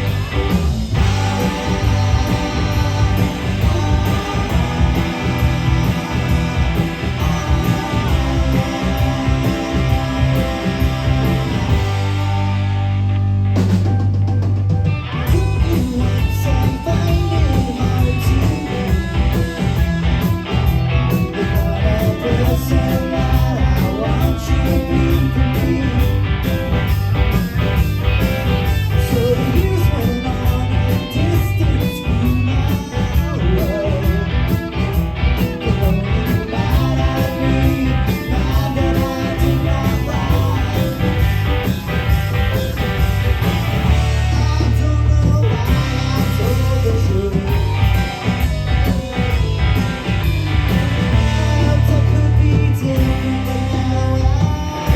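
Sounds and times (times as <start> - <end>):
bass guitar: 0.0 - 54.9
drums: 0.0 - 54.9
electric guitar: 0.0 - 54.9.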